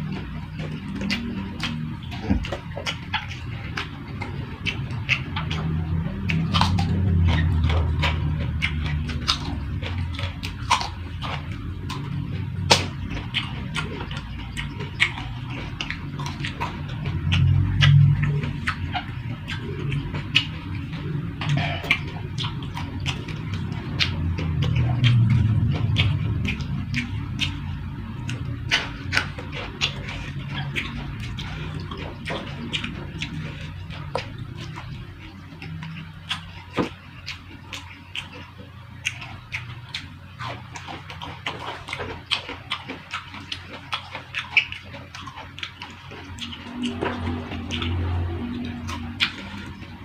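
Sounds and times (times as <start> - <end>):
chewing and crunching food: 0.0 - 50.0
low steady hum: 0.0 - 50.0
wet mouth clicks: 0.0 - 50.0.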